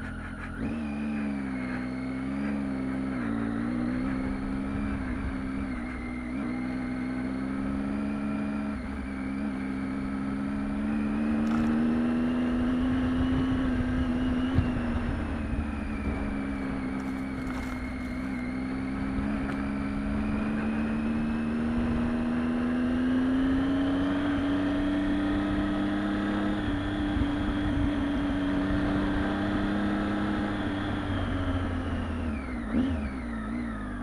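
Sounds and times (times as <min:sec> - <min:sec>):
motorcycle engine at low revs: 0:00.0 - 0:34.0.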